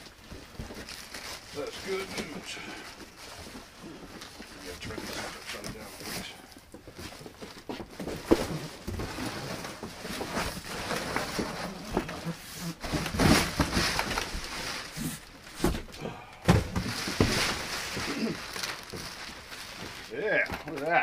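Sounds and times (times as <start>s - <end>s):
plastic wrapping crinkling: 0.0s - 15.9s, 16.7s - 21.0s.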